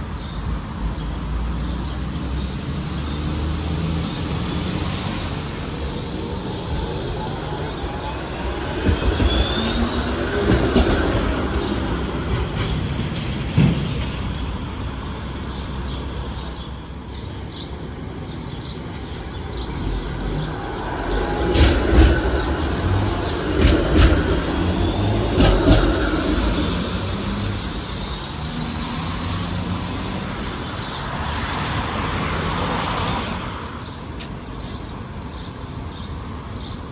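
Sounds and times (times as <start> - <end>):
streetcar wheels squealing: 4.1 - 33.8.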